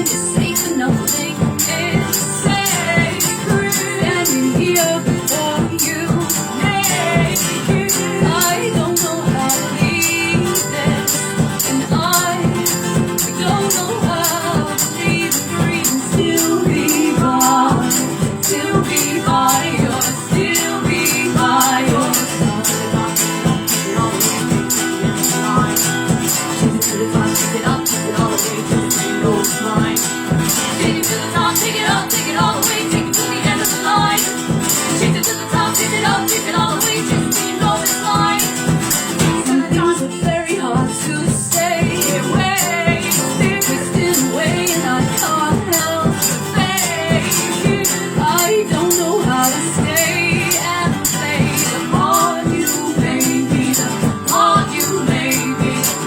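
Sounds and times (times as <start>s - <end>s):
person singing: 0.0s - 56.0s
strummed or shaken beats: 0.0s - 56.0s.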